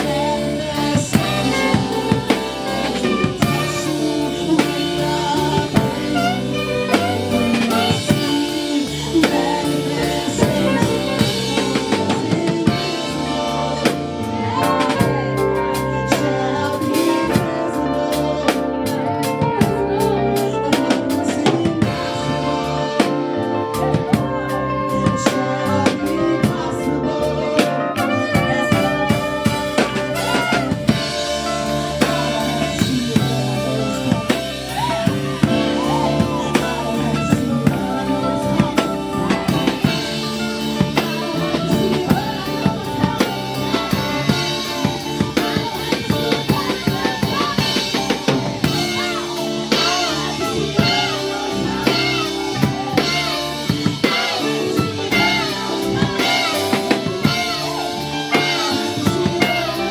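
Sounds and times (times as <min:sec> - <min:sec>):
drum kit playing steady beat: 0:00.0 - 0:59.9
live band playing gospel music: 0:00.0 - 0:59.9.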